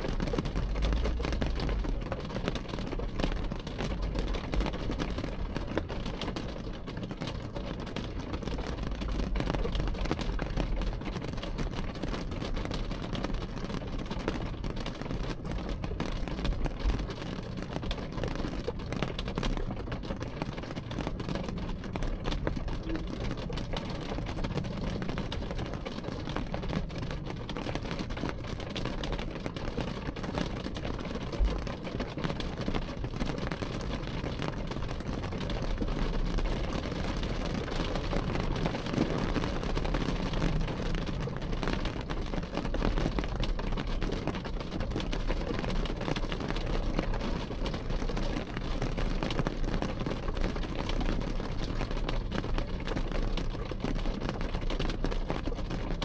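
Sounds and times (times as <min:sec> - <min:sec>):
rain pattering on window: 0:00.0 - 0:56.0.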